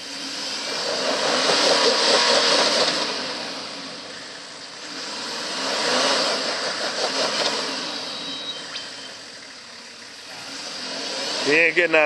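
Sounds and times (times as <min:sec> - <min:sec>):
vehicle engine straining: 0:00.0 - 0:12.0.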